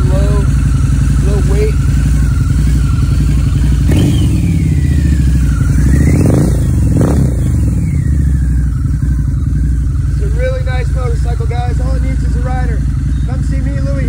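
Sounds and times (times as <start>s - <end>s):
motorcycle engine idling with throttle blips: 0.0s - 14.0s.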